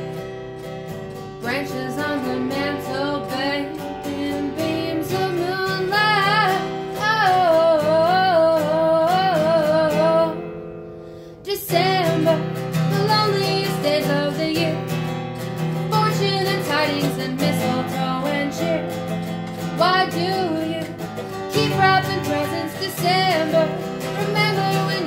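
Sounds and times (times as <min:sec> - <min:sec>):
guitar strumming: 0:00.0 - 0:25.0.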